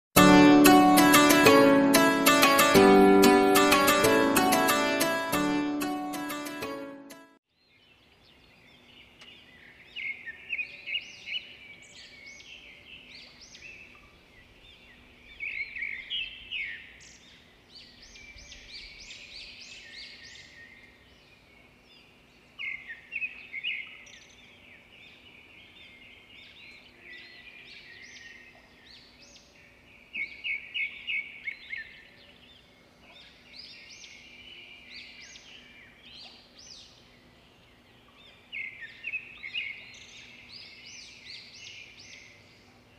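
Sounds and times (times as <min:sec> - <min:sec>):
birds chirping and singing: 0:07.6 - 0:42.9.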